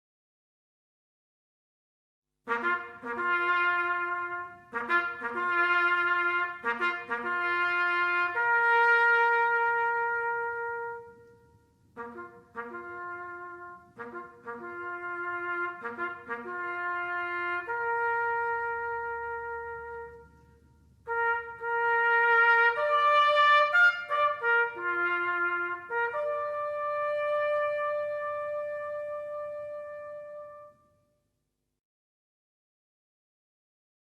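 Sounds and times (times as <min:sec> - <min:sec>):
solo trumpet bugle call: 0:02.5 - 0:31.0.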